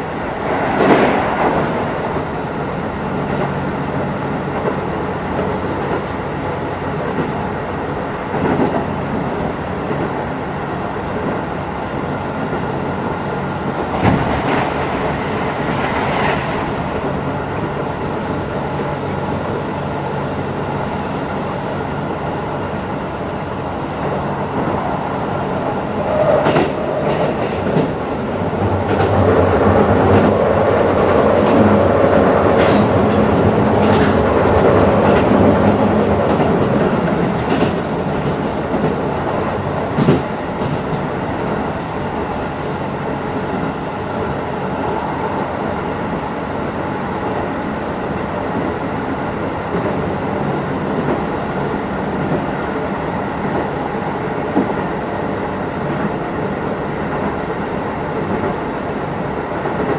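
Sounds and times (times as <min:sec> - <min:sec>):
train rolling noise: 0:00.0 - 0:59.9.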